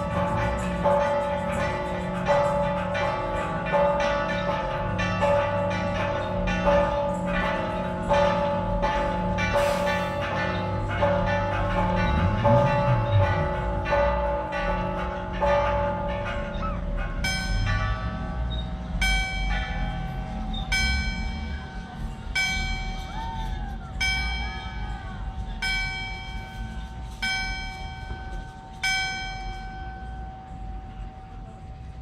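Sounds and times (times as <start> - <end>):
church bell tolling: 0.0 - 32.0.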